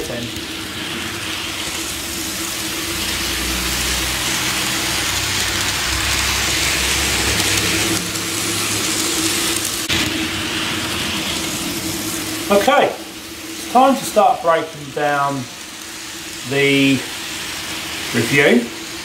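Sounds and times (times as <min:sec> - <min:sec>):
low motor hum: 0:00.0 - 0:18.1
model train wheels rolling hiss: 0:00.0 - 0:19.0.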